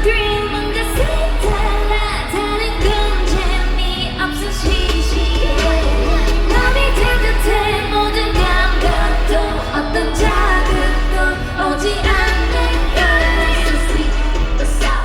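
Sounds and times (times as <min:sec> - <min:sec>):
girl group singing live: 0:00.0 - 0:15.0
pop backing track with heavy bass: 0:00.0 - 0:15.0.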